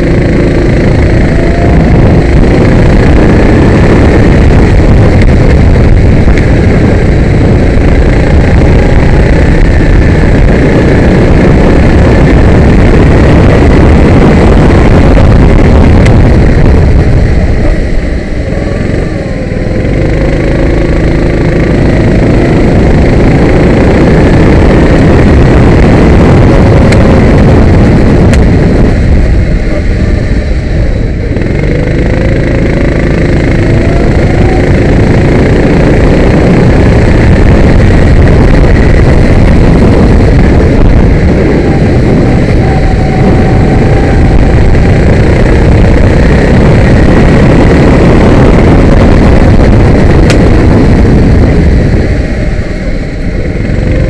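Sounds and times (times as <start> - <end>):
kart engine running hard: 0.0 - 54.0
rumble on microphone: 0.0 - 54.0.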